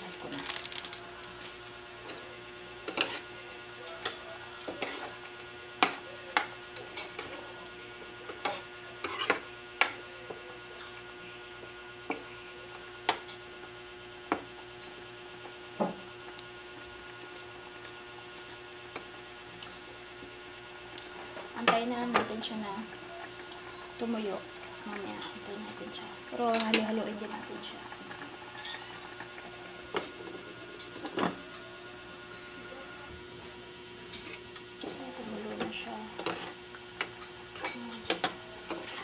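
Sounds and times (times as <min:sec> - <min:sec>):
sauce sizzling: 0:00.0 - 0:09.9, 0:11.5 - 0:30.8, 0:33.7 - 0:39.0.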